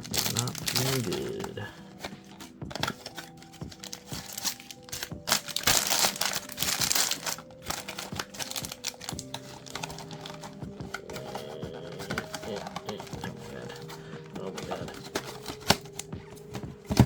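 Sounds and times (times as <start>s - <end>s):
foil wrappers crinkling: 0.0s - 17.0s.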